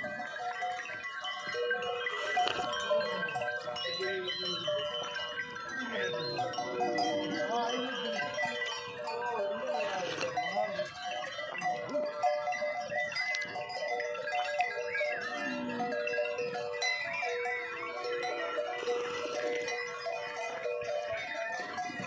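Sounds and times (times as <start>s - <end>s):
cattle calling: 0.0s - 22.0s
cattle neck bells ringing: 0.0s - 22.0s.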